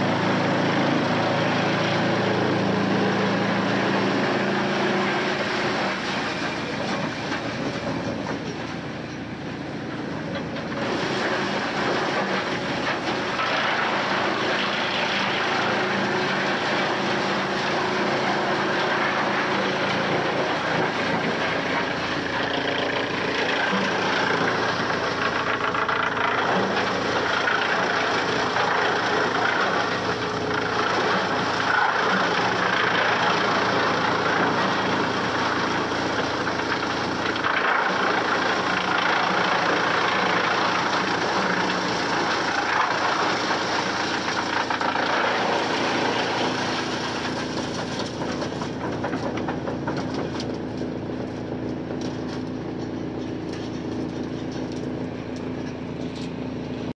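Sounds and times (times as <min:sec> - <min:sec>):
wood chipper grinding wood: 0:00.0 - 0:56.9.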